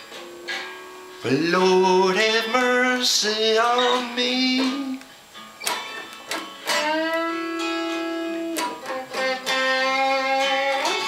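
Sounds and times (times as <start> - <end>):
electric guitar blues lead: 0.0 - 11.0.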